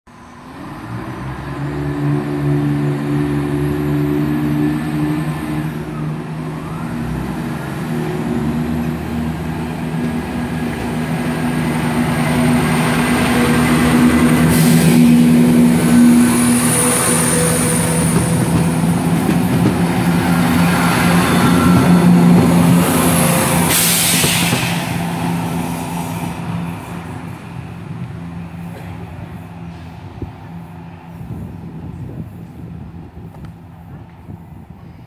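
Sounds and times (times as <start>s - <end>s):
diesel train engines humming: 0.1s - 35.0s.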